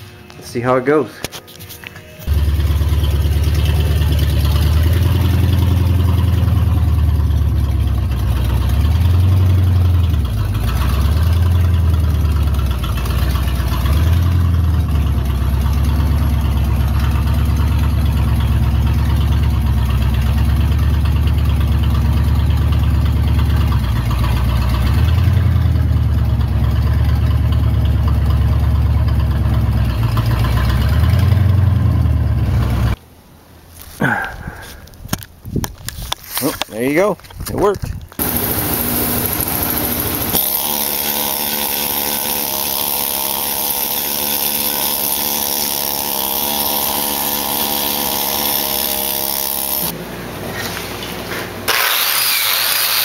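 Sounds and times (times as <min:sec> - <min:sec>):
engine revving: 0:02.3 - 0:33.0, 0:38.2 - 0:53.0.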